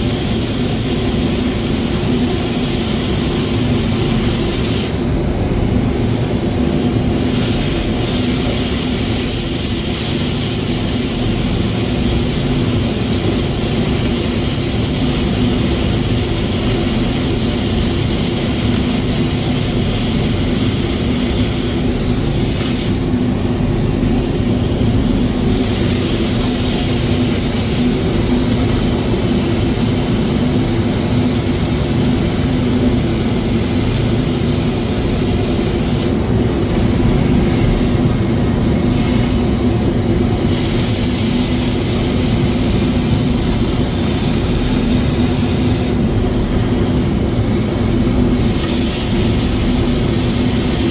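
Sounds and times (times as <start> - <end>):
hiss: 0.0 - 5.2, 6.0 - 36.7, 37.4 - 50.9.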